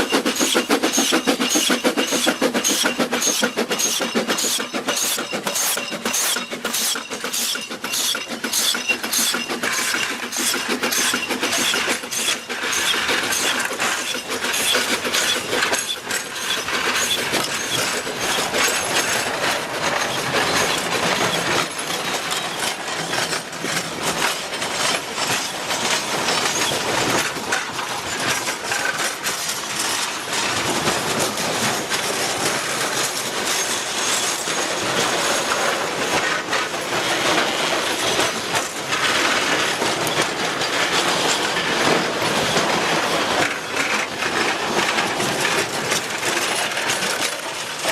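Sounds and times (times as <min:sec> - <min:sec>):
steam locomotive chuffing: 0:00.0 - 0:47.9.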